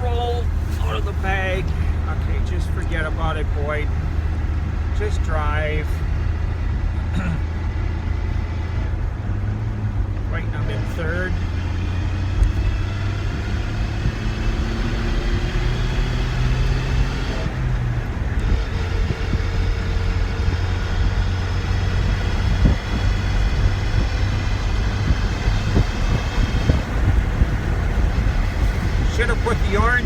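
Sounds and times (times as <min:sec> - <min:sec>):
road rumble: 0:00.0 - 0:30.0
truck engine accelerating: 0:00.0 - 0:30.0.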